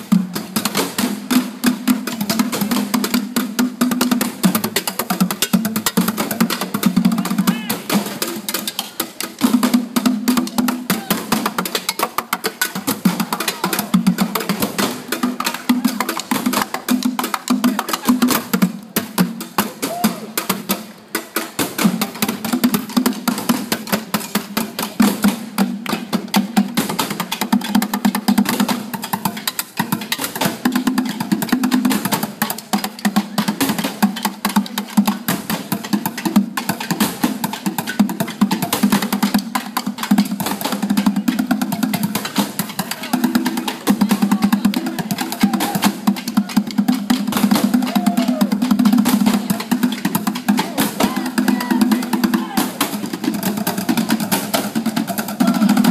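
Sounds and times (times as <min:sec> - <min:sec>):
drumming on barrels and pots: 0:00.0 - 0:55.9.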